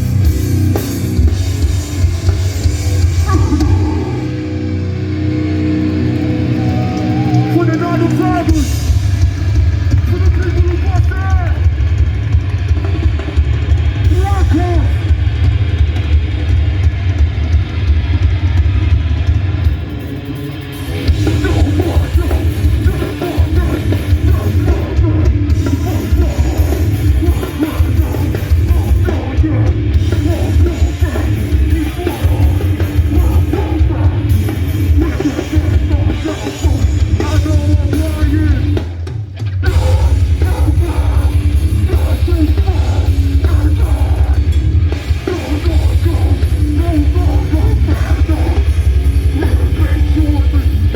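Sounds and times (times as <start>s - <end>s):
distorted guitars: 0.0s - 50.9s
heavy bass: 0.0s - 50.9s
pounding drums: 0.0s - 50.9s.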